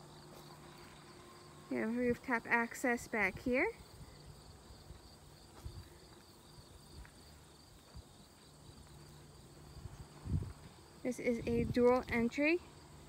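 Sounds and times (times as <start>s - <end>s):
insects chirring: 0.0s - 1.7s, 3.8s - 13.0s.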